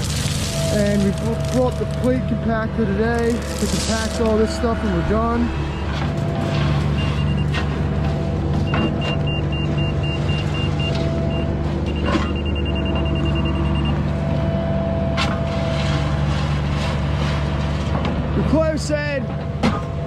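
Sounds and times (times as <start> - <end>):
construction machine engine running: 0.0 - 20.0.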